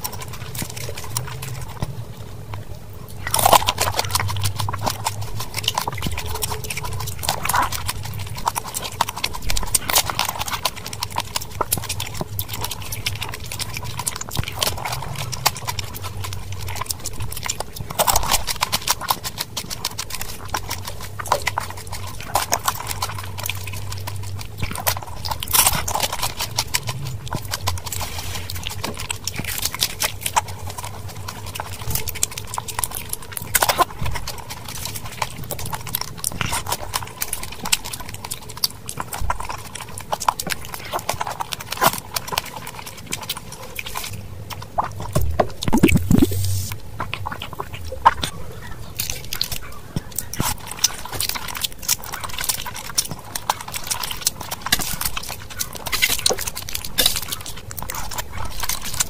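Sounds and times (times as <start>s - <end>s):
crunching and chewing crisp shells: 0.0s - 59.0s.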